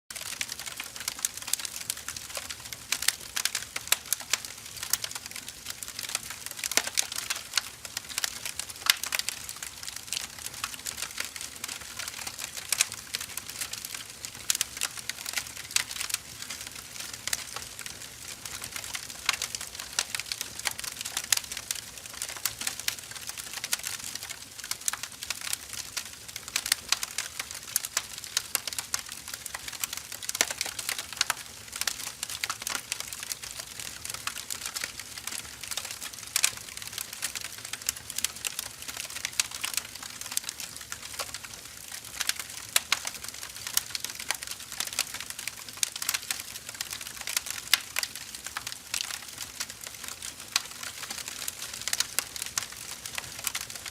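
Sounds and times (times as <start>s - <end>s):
firewood crackling and popping: 0.1s - 53.9s.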